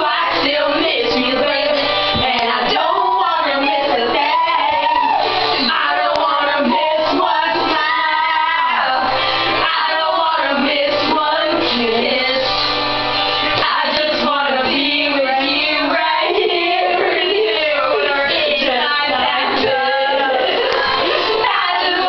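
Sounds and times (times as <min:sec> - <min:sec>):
song with vocals and band: 0:00.0 - 0:22.0.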